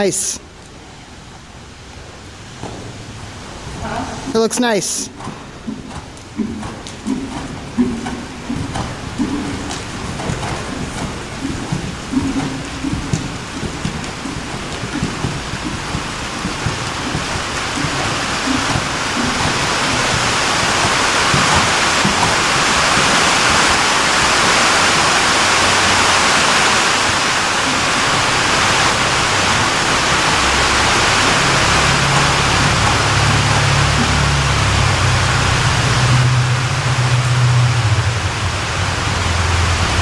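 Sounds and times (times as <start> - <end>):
low hum: 0.0 - 40.0
steady rushing noise: 0.0 - 40.0.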